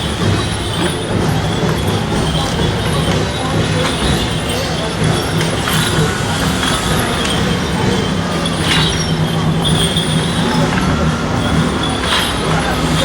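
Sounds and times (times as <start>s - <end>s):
street noise: 0.0s - 13.0s
vehicle engine running: 0.0s - 13.0s.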